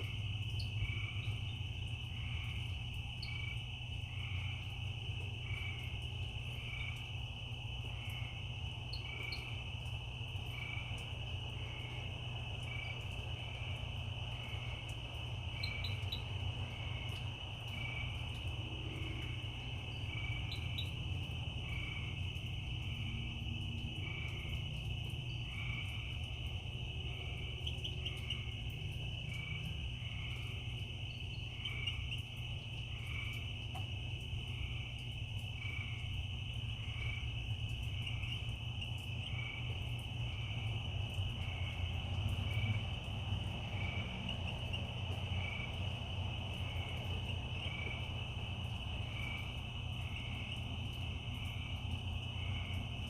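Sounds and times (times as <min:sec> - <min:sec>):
crickets trilling: 0:00.0 - 0:53.0
frog calls: 0:00.0 - 0:53.0.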